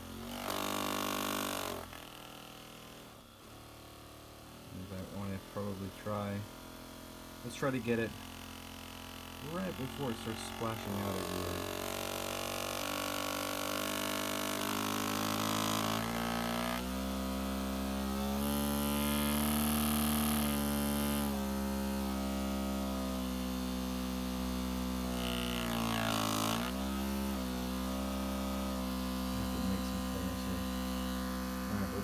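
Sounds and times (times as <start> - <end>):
vibration motor buzzing: 0.0 - 32.0.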